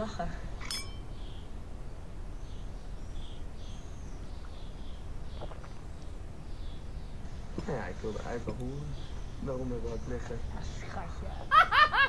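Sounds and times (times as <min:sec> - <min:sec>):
small birds chirping: 0:00.0 - 0:11.9
low background rumble: 0:00.0 - 0:12.0.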